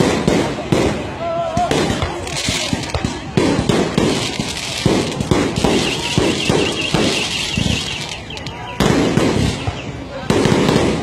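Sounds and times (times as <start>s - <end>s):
crowd voices: 0.0s - 11.0s
firecrackers banging: 0.0s - 11.0s.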